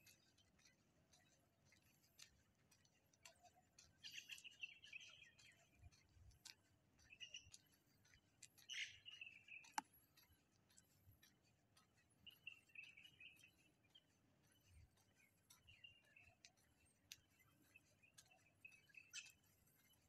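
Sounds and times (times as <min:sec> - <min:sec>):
faint birds chirping: 0:00.0 - 0:20.0
light ticks: 0:00.0 - 0:20.0.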